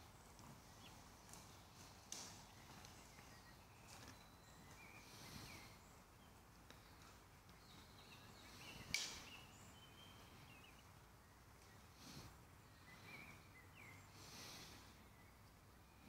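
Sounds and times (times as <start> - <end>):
low hiss: 0.0 - 16.0
faint bird calls: 0.2 - 16.0.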